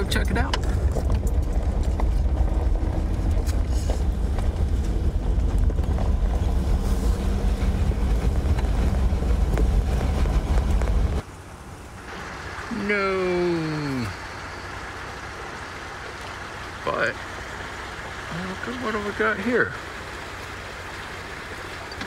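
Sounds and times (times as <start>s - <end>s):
off-road vehicle engine rumble: 0.0s - 22.0s.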